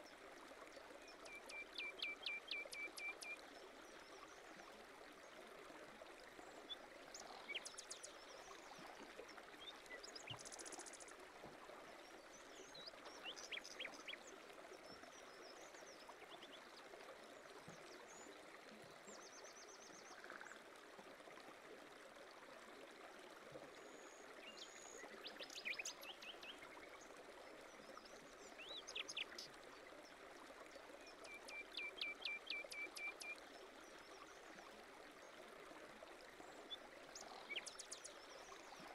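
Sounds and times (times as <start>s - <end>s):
faint running water: 0.0s - 38.9s.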